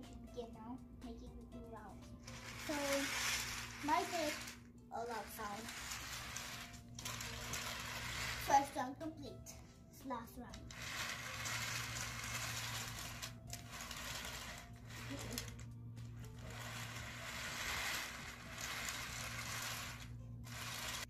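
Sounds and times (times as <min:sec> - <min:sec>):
toy trains rolling on plastic track: 0:02.2 - 0:08.9, 0:10.5 - 0:21.0.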